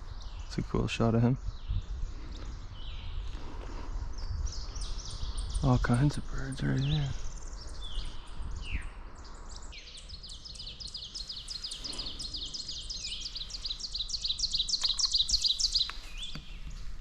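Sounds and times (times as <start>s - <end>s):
chorus of songbirds: 0.0s - 17.0s.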